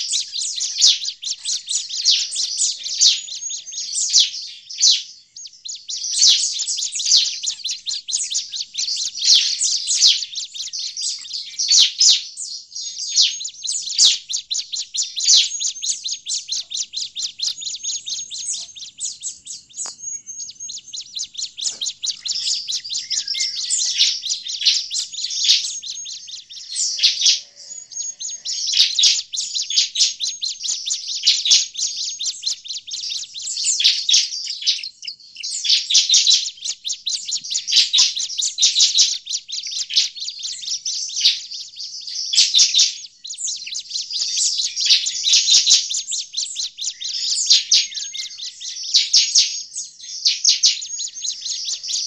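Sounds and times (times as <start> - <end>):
bird calling with high chips and trills: 0.0 - 52.0.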